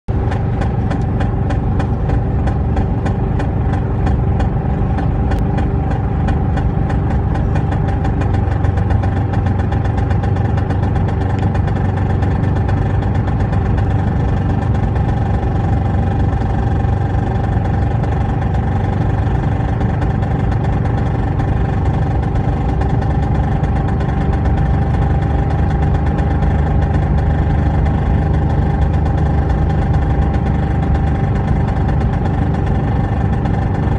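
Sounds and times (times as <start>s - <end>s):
car engine droning under load: 0.1s - 33.9s.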